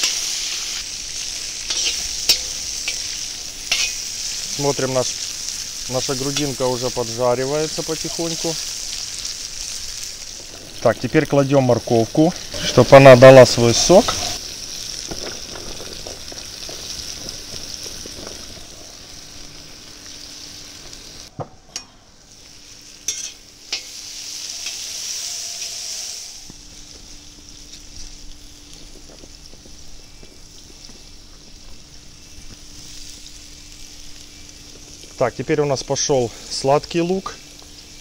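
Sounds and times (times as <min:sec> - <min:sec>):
meat sizzling in hot oil: 0:00.0 - 0:21.3, 0:22.2 - 0:38.0.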